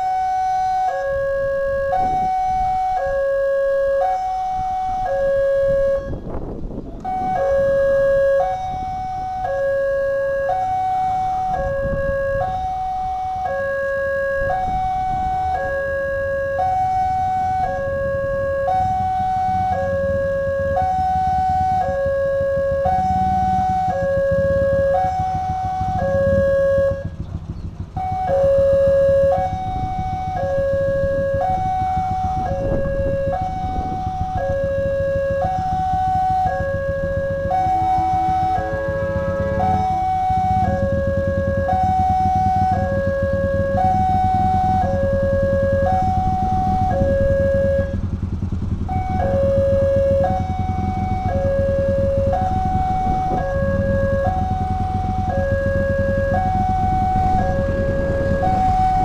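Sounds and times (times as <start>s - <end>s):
level-crossing two-note alarm: 0.0s - 27.3s, 27.9s - 59.0s.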